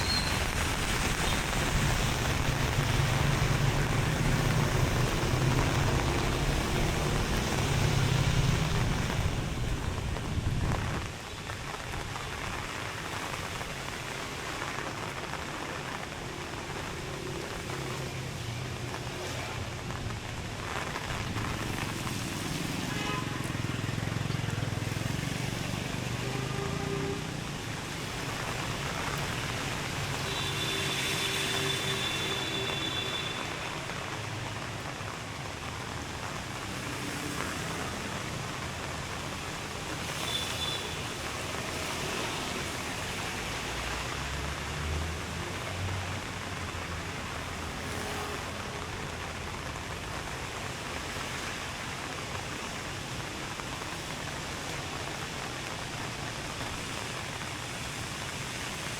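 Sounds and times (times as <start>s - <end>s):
rain hiss: 0.0s - 58.9s
traffic on wet roads: 0.0s - 58.9s.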